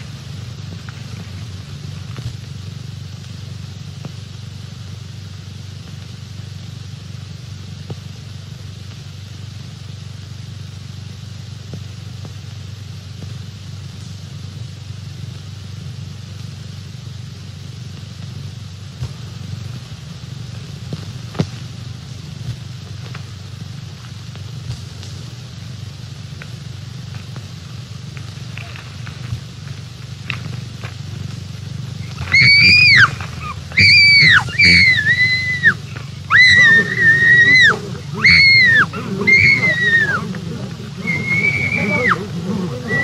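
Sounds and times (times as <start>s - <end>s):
film soundtrack hum and hiss: 0.0s - 43.0s.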